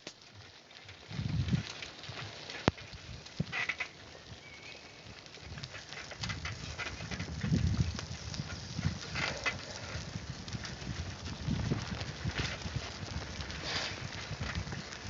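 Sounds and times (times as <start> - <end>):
saddle creaking and clicking: 0.0 - 15.0.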